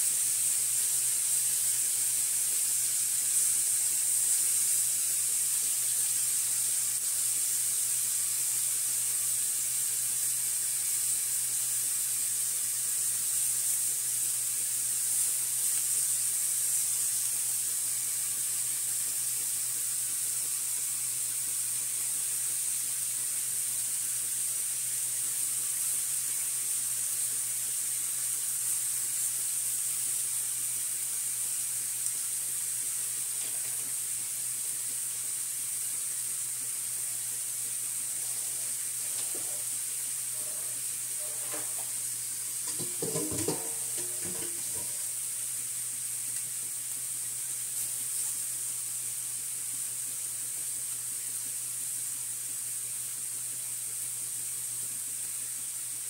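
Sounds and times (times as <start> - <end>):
meat sizzling on griddle: 0.0 - 56.0.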